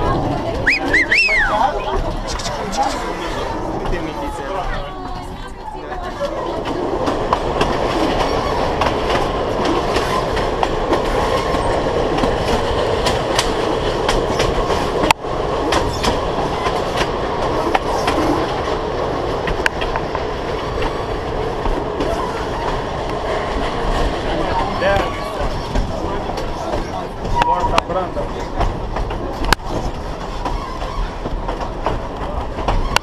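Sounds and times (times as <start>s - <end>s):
train carriages rumbling: 0.0s - 33.0s
wheels clacking over rails: 0.0s - 33.0s.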